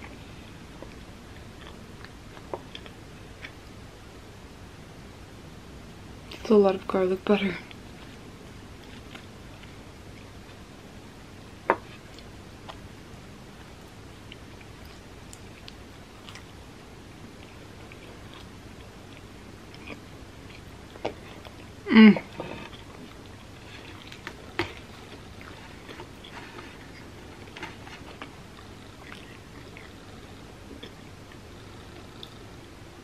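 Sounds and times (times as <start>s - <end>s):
chewing pizza crust: 0.0s - 3.7s, 7.6s - 10.7s, 11.8s - 32.5s.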